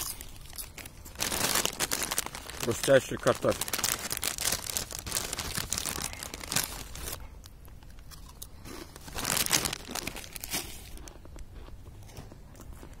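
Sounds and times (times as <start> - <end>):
crisp packet crinkling: 0.0 - 11.4.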